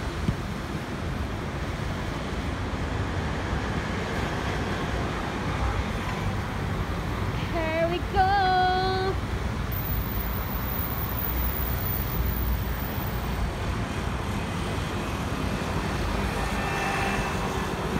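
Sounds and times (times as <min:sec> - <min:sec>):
street traffic: 0:00.0 - 0:17.9.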